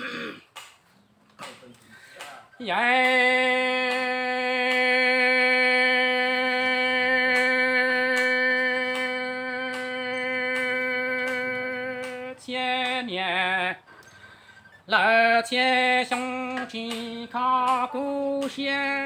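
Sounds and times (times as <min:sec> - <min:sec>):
person singing: 0:02.6 - 0:14.0, 0:14.9 - 0:19.0.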